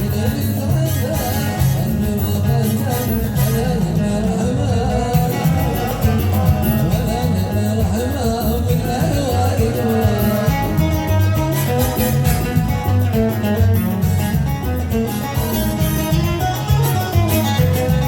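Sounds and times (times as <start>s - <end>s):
driving percussion beat: 0.0s - 18.0s
man singing: 0.0s - 18.0s.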